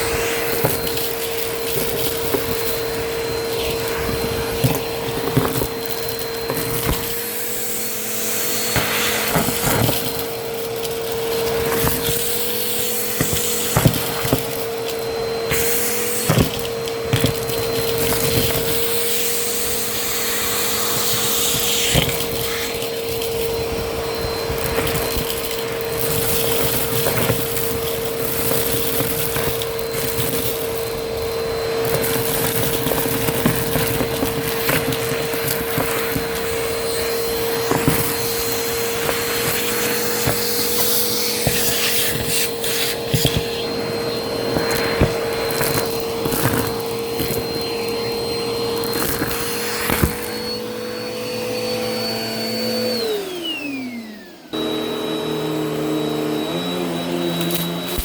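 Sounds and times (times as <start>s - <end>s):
debris crackling in vacuum: 0.0s - 53.9s
vacuum cleaner motor whine: 0.0s - 58.0s.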